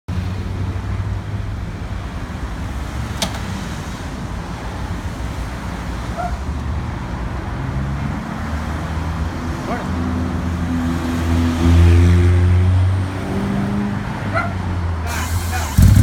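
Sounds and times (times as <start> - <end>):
vehicle engine rumbling: 0.1 - 16.0.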